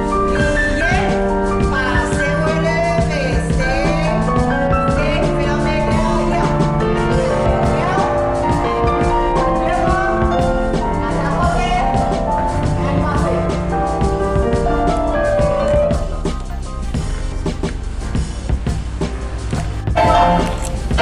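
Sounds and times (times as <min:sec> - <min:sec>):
music with a steady beat: 0:00.0 - 0:21.0.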